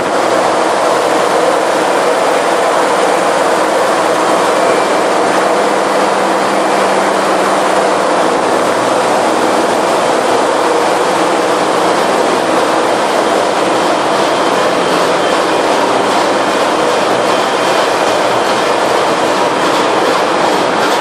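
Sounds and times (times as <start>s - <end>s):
engine room machinery din: 0.0s - 21.0s.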